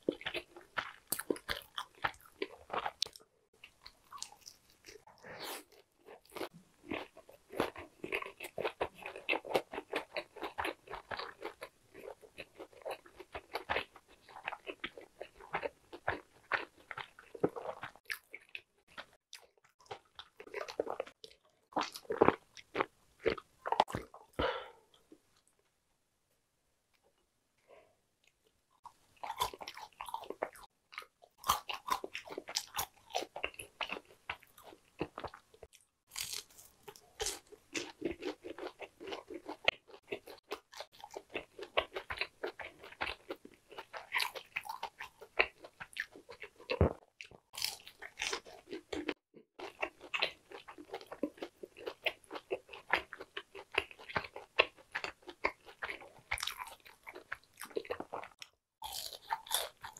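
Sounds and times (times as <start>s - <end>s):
person chewing crunchy food: 0.0s - 25.6s, 28.2s - 59.9s.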